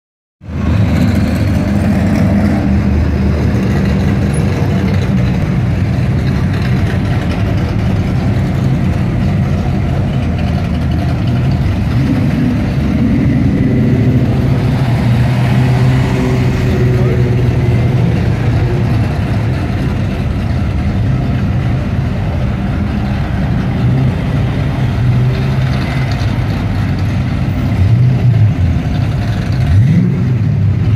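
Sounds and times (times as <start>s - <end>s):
car engines rumbling: 0.4s - 30.9s.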